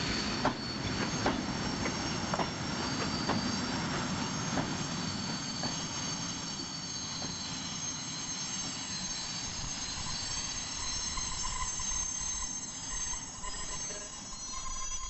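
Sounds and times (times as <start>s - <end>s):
high-pitched wheel squeal: 0.2s - 15.0s.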